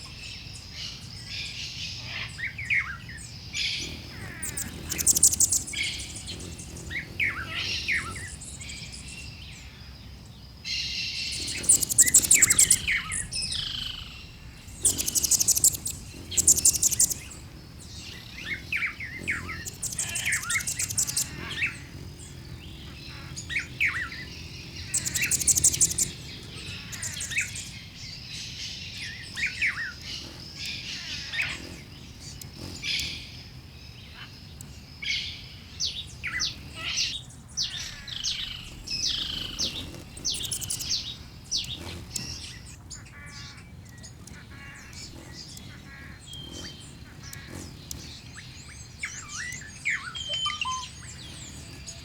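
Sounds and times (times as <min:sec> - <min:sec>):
birds chirping: 0:00.0 - 0:52.0
rapid high bird trill: 0:01.7 - 0:09.8, 0:10.8 - 0:52.0.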